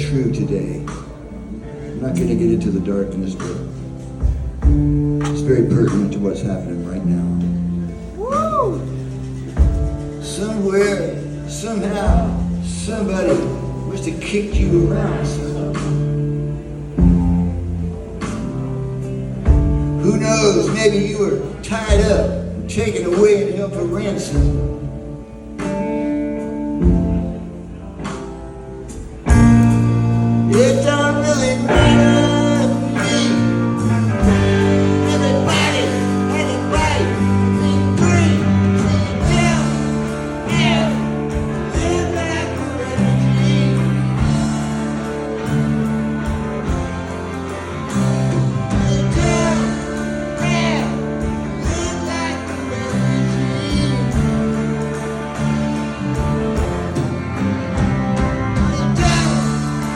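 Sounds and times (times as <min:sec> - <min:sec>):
electric guitar: 0:00.0 - 0:59.9
live rock band playing a waltz: 0:00.0 - 0:59.9.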